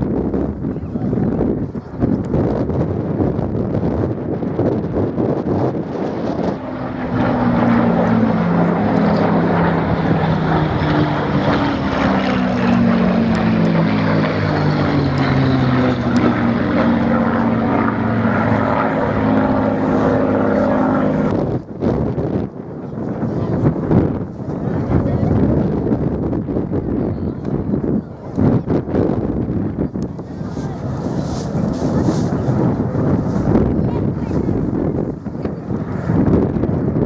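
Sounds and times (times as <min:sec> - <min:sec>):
propeller plane engine drone: 0:00.0 - 0:37.0.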